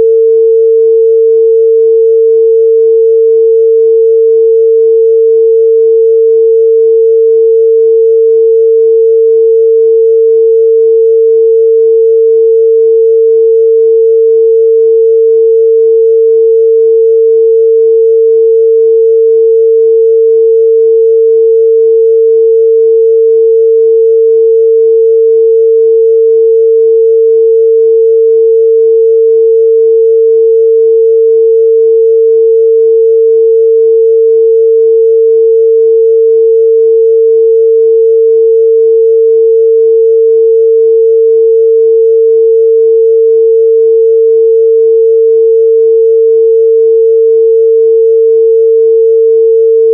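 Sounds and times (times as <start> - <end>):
pure sine test tone: 0.0 - 49.9.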